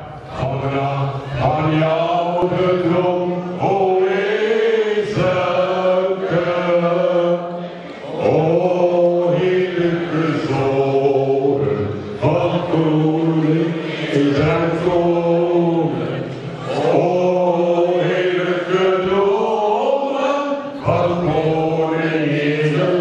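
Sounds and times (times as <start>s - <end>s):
men singing through pa: 0.0s - 23.0s.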